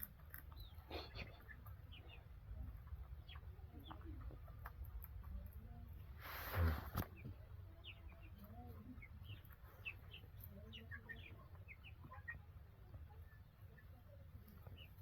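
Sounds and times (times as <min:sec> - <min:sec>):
faint small birds chirping: 0:00.0 - 0:15.0.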